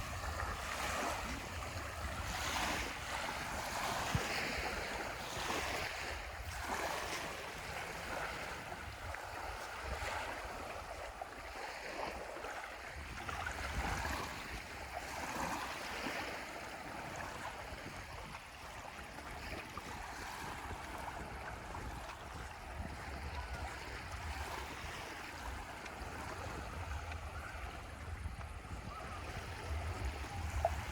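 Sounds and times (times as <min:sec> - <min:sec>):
small waves washing onto beach: 0:00.0 - 0:30.9
wind rumbling on microphone: 0:00.0 - 0:30.9.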